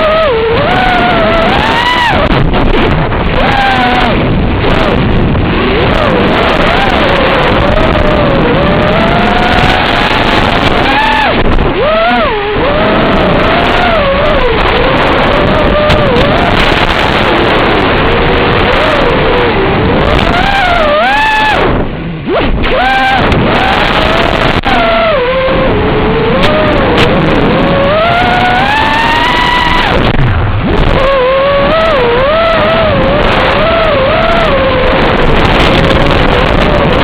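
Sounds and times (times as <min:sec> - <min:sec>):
quadcopter motors whining: 0:00.0 - 0:02.6, 0:03.2 - 0:37.0
steady rushing noise: 0:00.0 - 0:37.0.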